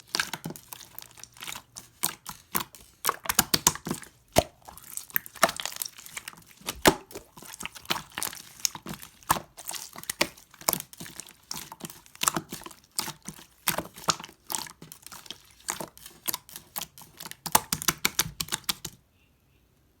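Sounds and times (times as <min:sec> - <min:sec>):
slime squeezed by hand: 0:00.0 - 0:19.0.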